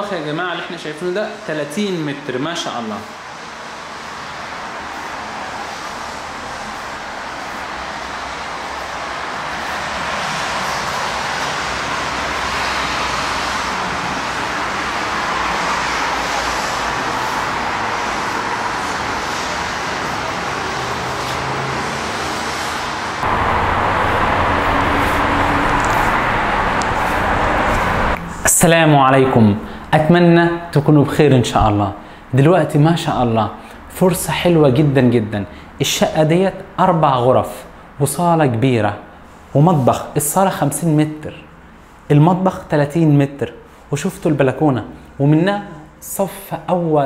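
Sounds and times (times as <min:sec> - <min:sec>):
road traffic rushing: 0:00.0 - 0:46.3.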